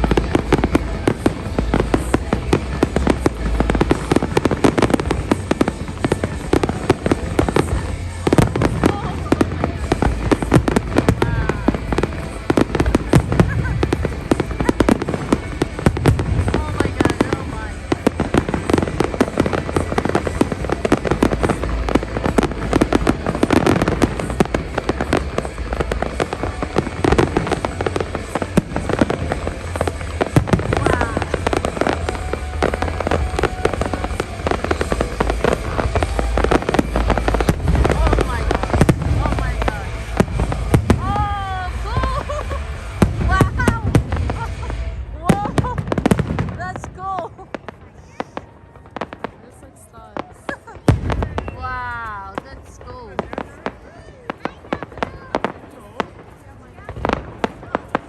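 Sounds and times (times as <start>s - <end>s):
low rumble: 0.0s - 48.0s
fireworks bangs and crackles: 0.0s - 58.0s.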